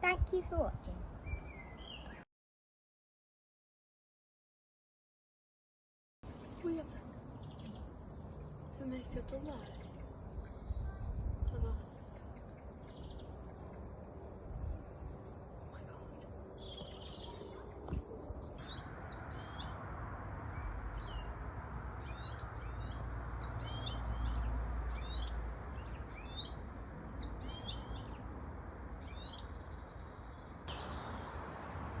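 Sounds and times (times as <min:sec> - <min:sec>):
songbirds twittering: 0:01.2 - 0:02.2, 0:06.3 - 0:32.0.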